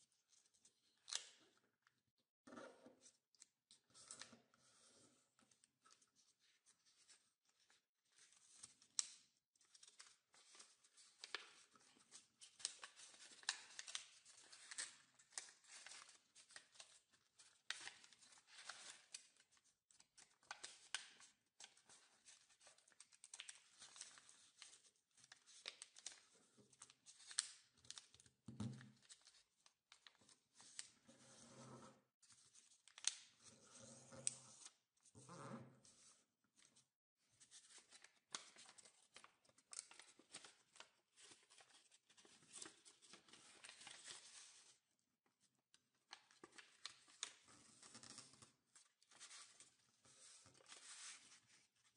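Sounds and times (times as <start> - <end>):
paper crinkling and folding: 3.9 - 31.7, 32.3 - 34.8, 35.8 - 44.8, 45.8 - 51.9.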